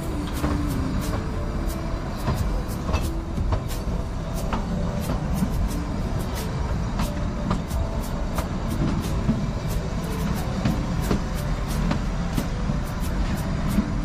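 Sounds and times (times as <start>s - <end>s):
train rumbling: 0.0s - 14.0s
wheels clicking and rattling: 0.0s - 14.0s.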